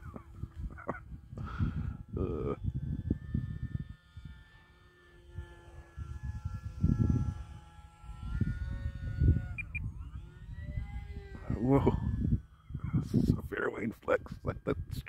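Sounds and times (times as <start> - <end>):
model plane motor whining: 0.0 - 15.0
wind buffeting microphone: 0.0 - 15.0.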